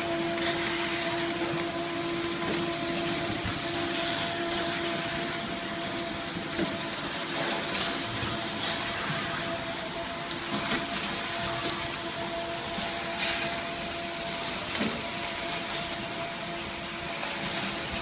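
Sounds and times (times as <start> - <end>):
machine motors whirring and hissing: 0.0 - 18.0.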